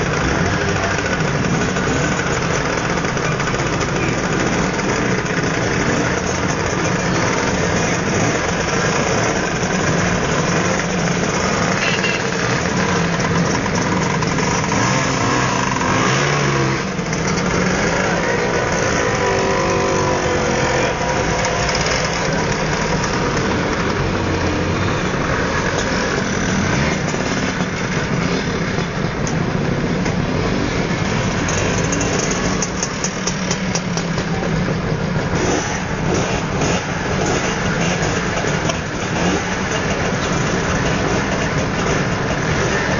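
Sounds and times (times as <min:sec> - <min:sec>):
motor scooter engines revving: 0:00.0 - 0:42.9.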